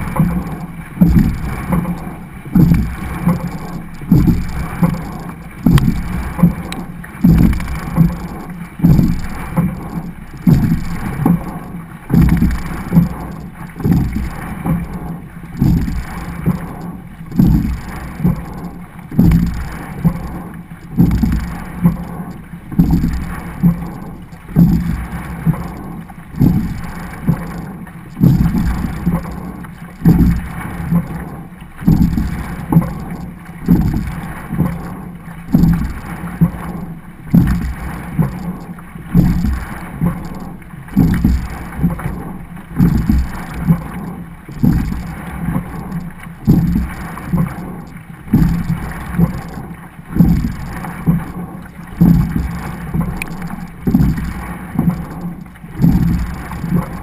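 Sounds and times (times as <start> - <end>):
rowing stroke surge: 0.0 - 57.0
water rushing along hull: 0.0 - 57.0.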